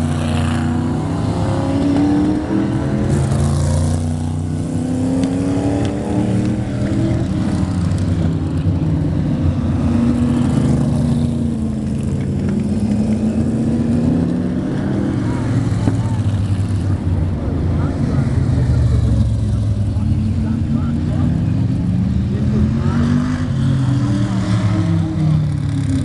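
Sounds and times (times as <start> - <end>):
race car engines passing: 0.0 - 26.0.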